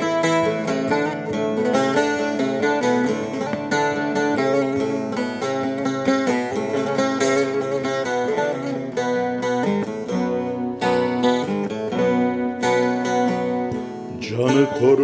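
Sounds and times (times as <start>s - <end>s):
long-necked lute plucked notes: 0.0s - 15.0s.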